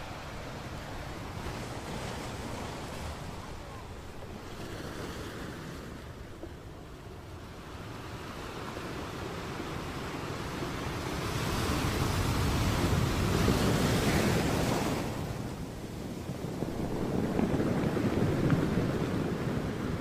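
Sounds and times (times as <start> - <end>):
ocean waves washing: 0.0 - 20.0.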